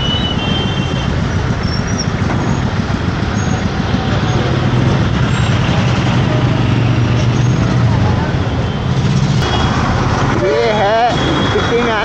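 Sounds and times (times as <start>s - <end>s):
rumble of city traffic: 0.0s - 12.0s.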